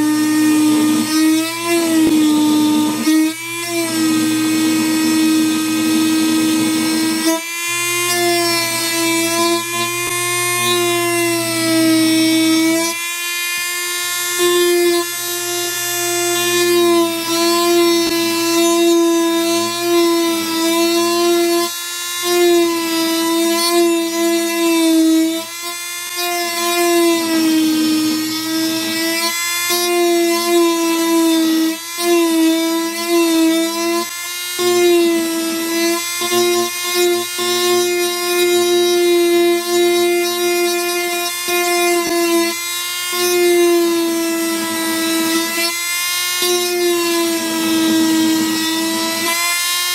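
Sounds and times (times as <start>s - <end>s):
rotary tool whining: 0.0s - 49.9s.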